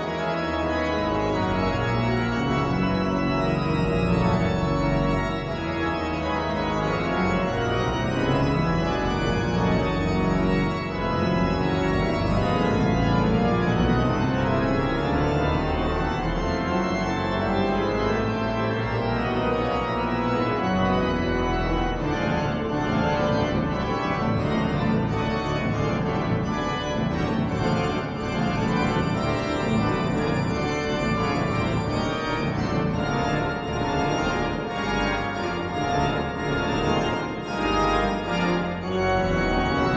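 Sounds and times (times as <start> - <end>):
pipe organ chords: 0.0 - 39.9.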